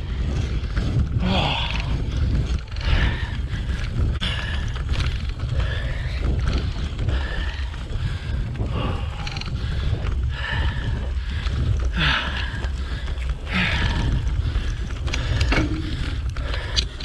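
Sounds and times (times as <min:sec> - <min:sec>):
person breathing hard: 0:00.0 - 0:17.0
wind rumble on microphone: 0:00.0 - 0:17.0.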